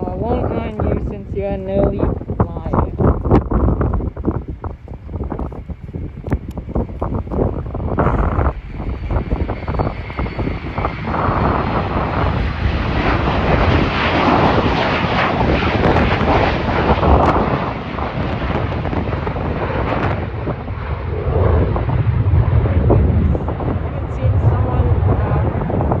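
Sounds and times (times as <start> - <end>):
jet engines roaring: 0.0 - 26.0
wind on the microphone: 0.0 - 26.0.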